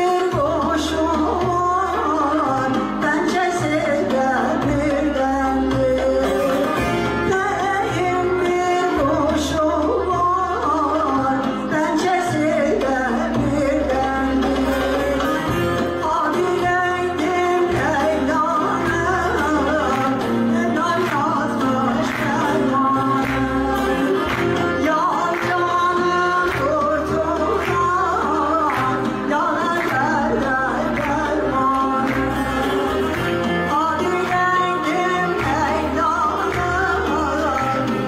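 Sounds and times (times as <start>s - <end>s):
plucked lutes ensemble: 0.0s - 38.0s
woman singing: 0.0s - 38.0s.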